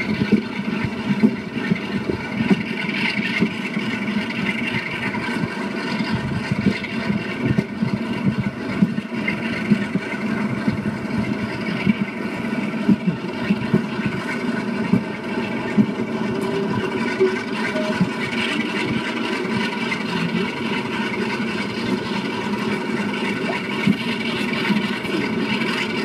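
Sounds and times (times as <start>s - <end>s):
diesel locomotive running: 0.0s - 26.0s
wheels clicking on track: 0.0s - 26.0s
wind: 0.0s - 26.0s.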